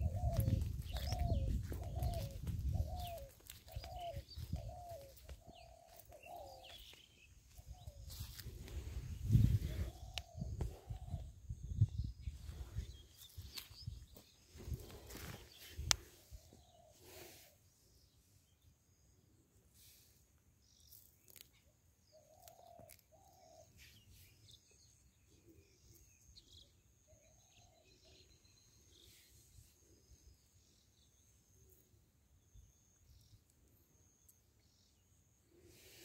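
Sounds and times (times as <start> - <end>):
faint bird chirps: 0.0 - 36.0.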